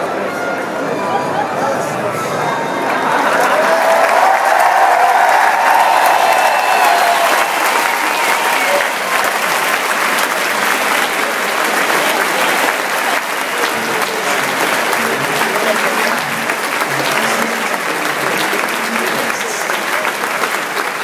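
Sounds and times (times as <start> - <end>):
scattered voices: 0.0 - 3.8, 7.8 - 21.0
stadium crowd applauding: 2.7 - 21.0.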